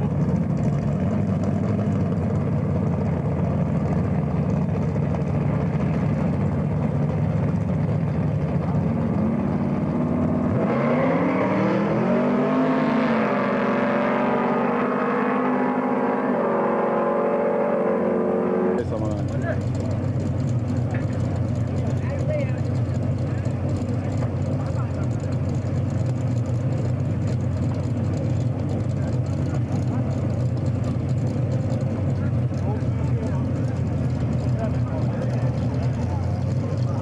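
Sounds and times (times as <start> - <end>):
drag racing engines accelerating: 0.0 - 37.0.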